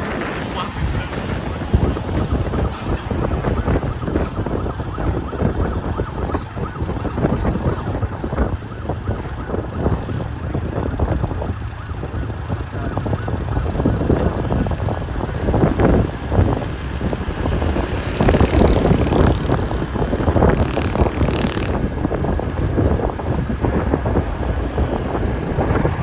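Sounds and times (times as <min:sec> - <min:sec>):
moving vehicles rumble: 0:00.0 - 0:26.0
sirens wailing: 0:00.0 - 0:26.0
wind on microphone: 0:00.0 - 0:26.0.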